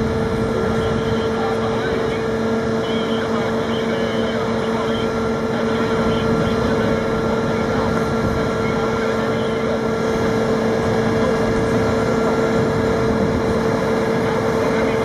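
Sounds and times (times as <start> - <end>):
engine whining over low rumble: 0.0 - 15.0.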